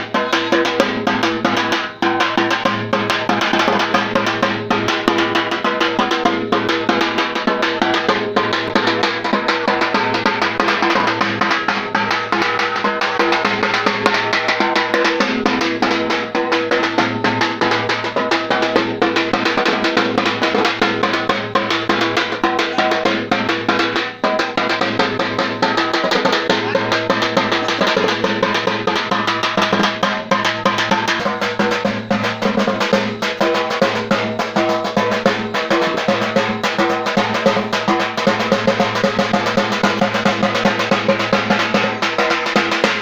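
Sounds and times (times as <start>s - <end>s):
fast drumming with rolls: 0.0s - 43.0s.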